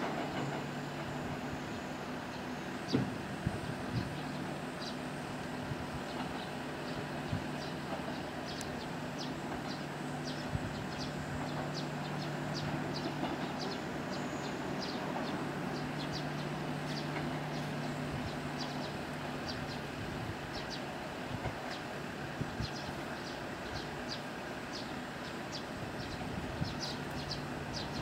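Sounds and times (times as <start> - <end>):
diesel railcar engine drone: 0.0 - 28.0.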